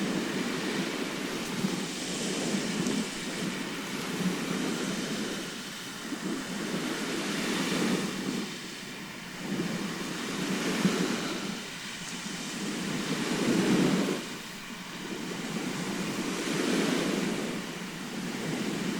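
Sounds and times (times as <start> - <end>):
sea waves washing onto shore: 0.0 - 18.9.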